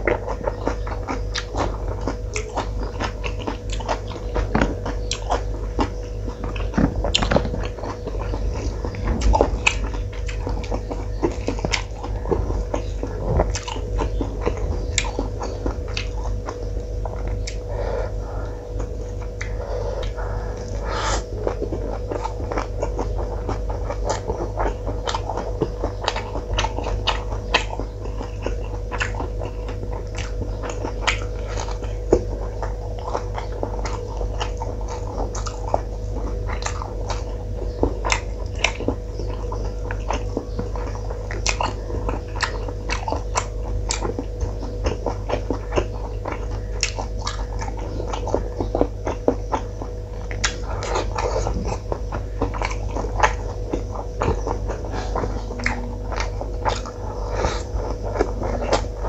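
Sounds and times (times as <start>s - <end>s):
close chewing and mouth clicks: 0.0s - 59.0s
steady low hum: 0.0s - 59.0s.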